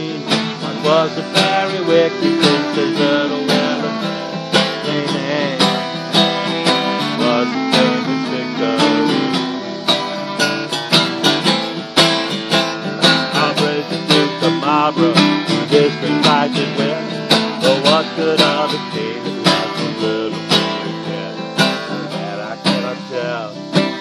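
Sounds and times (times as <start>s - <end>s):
acoustic guitar strumming: 0.0s - 24.0s
clarinet melody: 0.0s - 24.0s.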